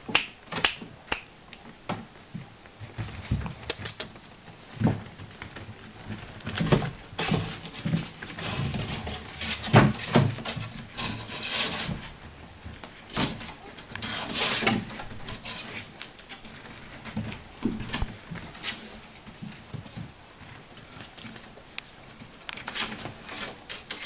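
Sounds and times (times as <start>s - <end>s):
puppy paws pattering on hard floor: 1.5s - 24.0s.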